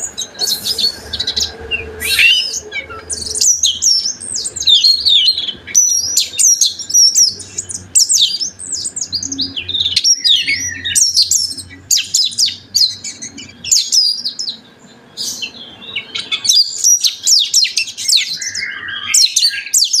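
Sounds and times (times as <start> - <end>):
bird singing whistled phrases: 0.2 - 8.4, 9.3 - 14.4, 15.2 - 20.0.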